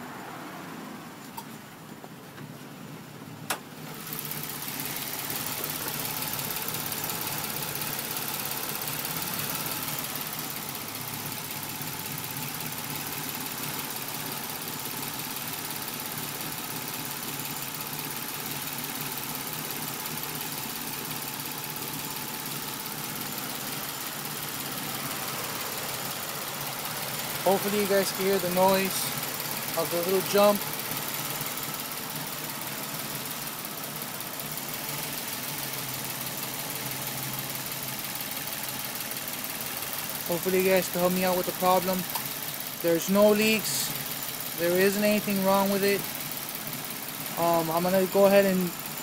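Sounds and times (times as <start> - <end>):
car engine idling with light tick: 1.2 - 49.0.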